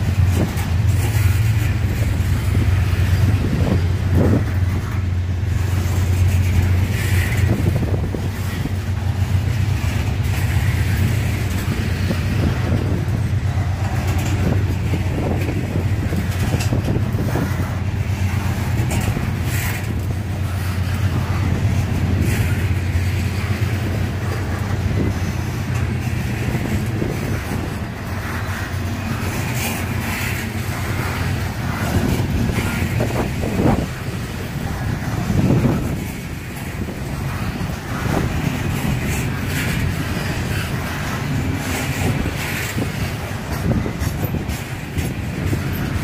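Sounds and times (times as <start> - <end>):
freight train rumbling past: 0.0 - 46.0
wheels clattering over rail joints: 0.0 - 46.0.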